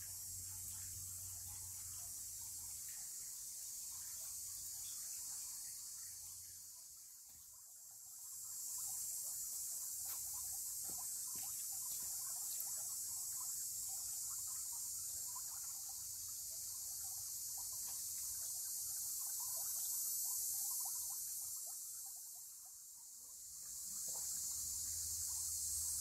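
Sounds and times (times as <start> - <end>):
high-pitched insect chorus: 0.0 - 26.0
water rippling in a pond: 0.0 - 26.0.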